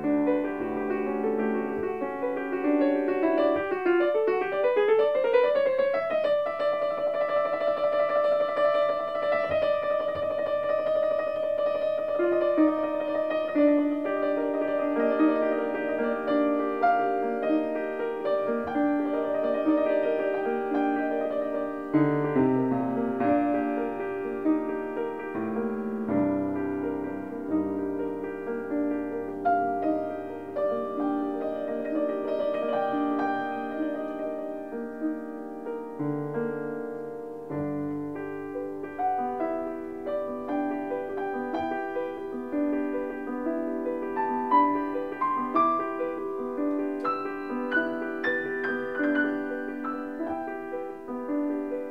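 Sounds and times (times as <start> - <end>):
gentle solo piano: 0.0 - 51.9.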